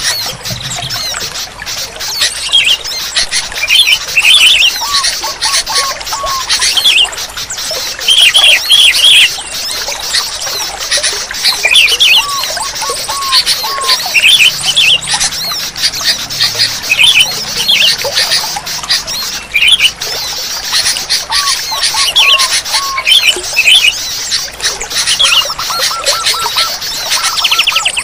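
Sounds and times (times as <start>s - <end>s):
bulbuls calling: 0.0s - 28.0s
high bird chatter: 0.0s - 28.0s.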